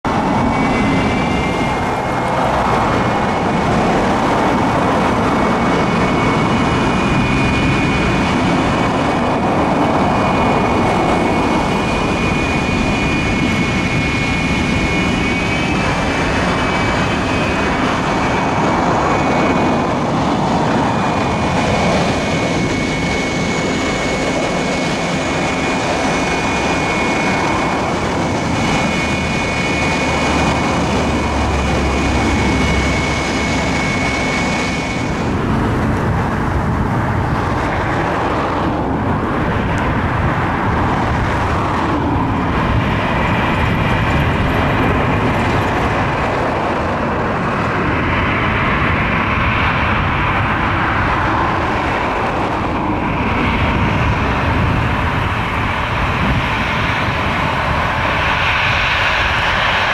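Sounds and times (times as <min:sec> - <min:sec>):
jet engine high whine: 0:00.0 - 0:59.9
jet engine noise taxiing: 0:00.0 - 0:59.9.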